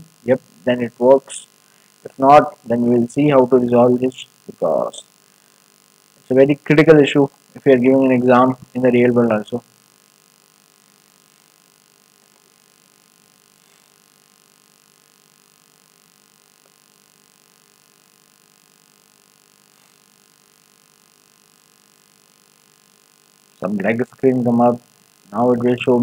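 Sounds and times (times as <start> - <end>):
faint electrical hum: 0.0 - 26.0.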